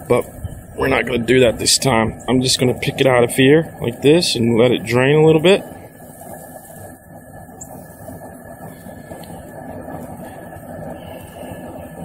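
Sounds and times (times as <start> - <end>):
gas burner rumble: 0.0 - 12.0.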